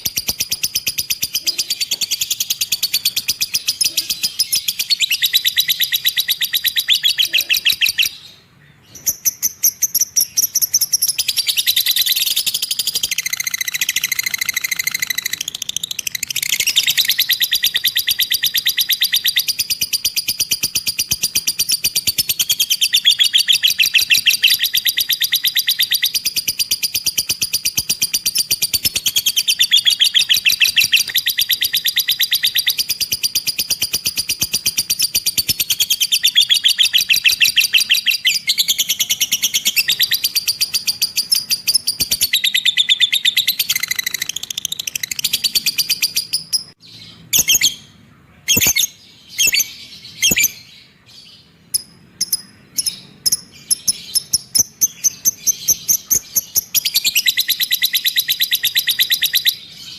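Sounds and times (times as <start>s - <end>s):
lovebird chattering trill: 0.0s - 8.3s, 9.0s - 50.8s, 51.7s - 59.9s.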